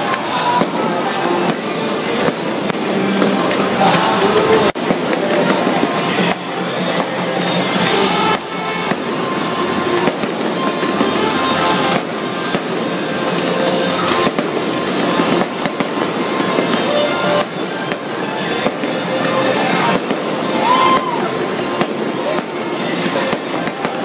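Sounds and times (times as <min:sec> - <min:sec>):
fireworks bursts and crackling: 0:00.0 - 0:24.0.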